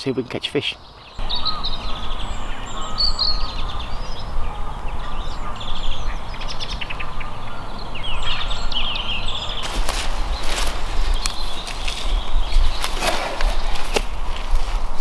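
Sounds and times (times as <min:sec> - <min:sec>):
small birds chirping and trilling: 0:00.0 - 0:15.0.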